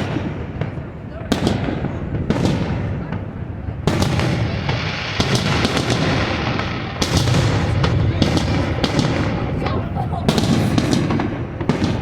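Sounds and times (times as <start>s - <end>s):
fireworks booms and crackling: 0.0s - 12.0s.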